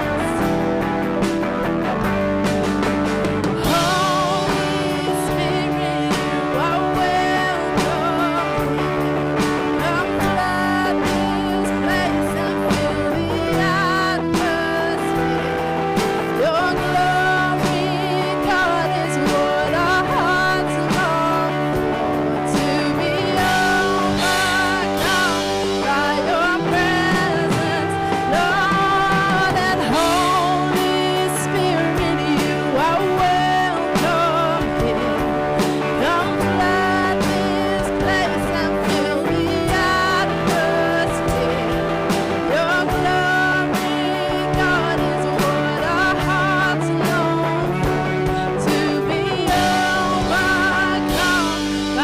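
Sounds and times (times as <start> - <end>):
band playing held chords: 0.0 - 52.0
guitar: 0.0 - 52.0
person singing with vibrato: 0.0 - 52.0.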